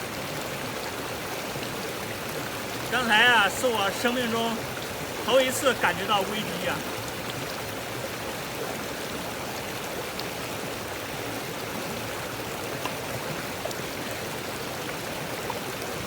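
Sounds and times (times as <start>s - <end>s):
mountain stream flowing: 0.0s - 16.0s.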